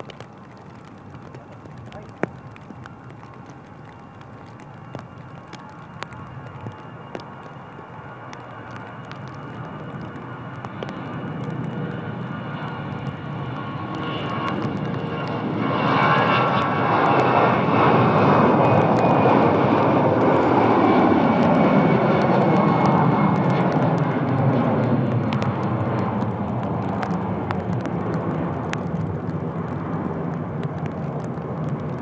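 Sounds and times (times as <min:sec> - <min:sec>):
faint engine whine: 0:00.0 - 0:32.0
jet engines roaring: 0:00.0 - 0:32.0.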